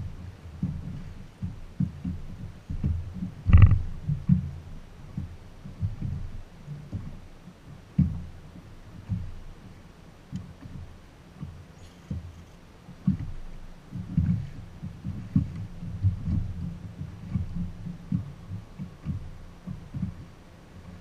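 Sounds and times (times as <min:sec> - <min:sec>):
waves slapping boat hull: 0:00.0 - 0:21.0.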